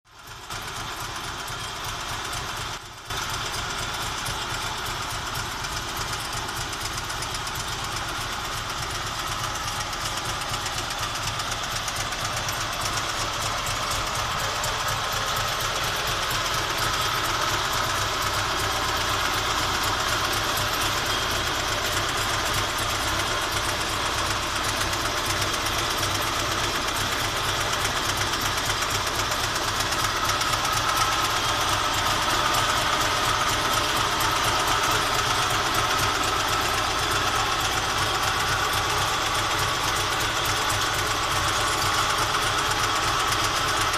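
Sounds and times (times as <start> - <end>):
car engine idling: 0.1 - 43.9.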